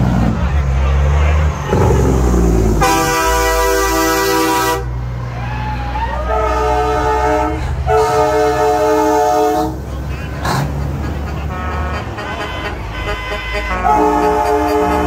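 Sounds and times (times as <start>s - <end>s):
diesel trucks rumbling: 0.0s - 15.0s
truck air horns blowing: 1.7s - 5.0s, 6.2s - 15.0s.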